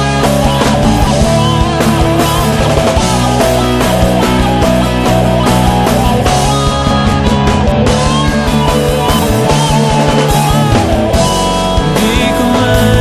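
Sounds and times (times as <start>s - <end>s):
pop-rock guitar over a beat: 0.0s - 13.0s.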